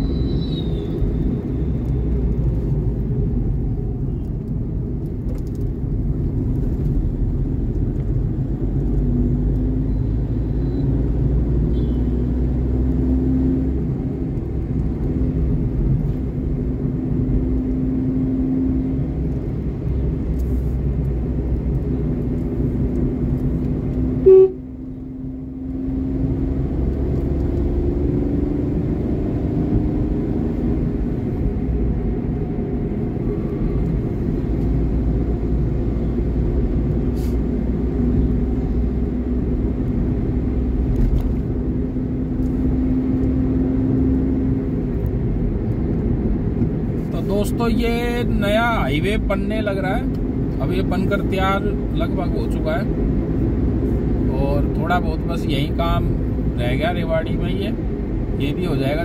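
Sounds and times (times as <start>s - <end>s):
vehicle rumbling on highway: 0.0s - 59.0s.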